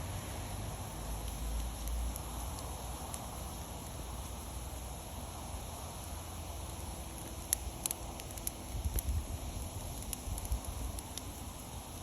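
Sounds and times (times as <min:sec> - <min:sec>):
bonfire crackling: 0:00.0 - 0:12.0.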